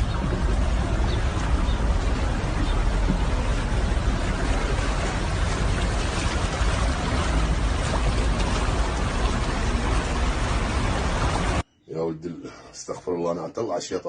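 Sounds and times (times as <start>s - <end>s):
floodwater rushing: 0.0s - 11.6s
heavy rain: 0.0s - 11.6s
low rumble: 0.0s - 11.6s.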